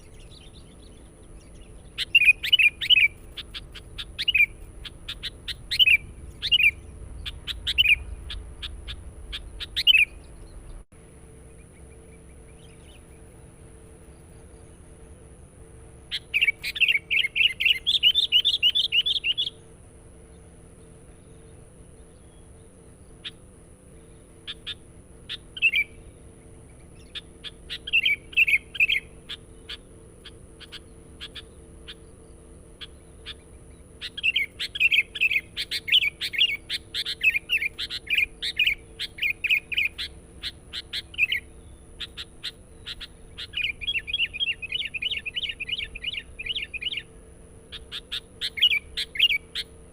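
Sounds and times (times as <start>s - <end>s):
bulbul singing chattering phrases: 0.0s - 10.8s, 15.7s - 49.9s
faint steady hum: 0.0s - 49.9s.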